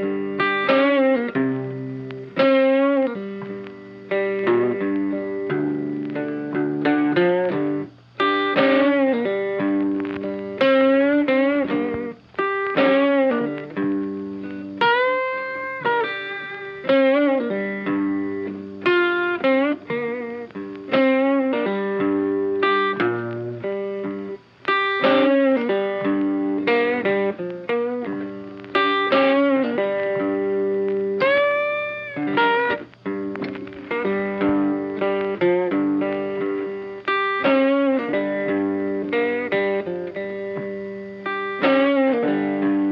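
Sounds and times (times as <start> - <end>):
plucked guitar melody: 0.0 - 42.9.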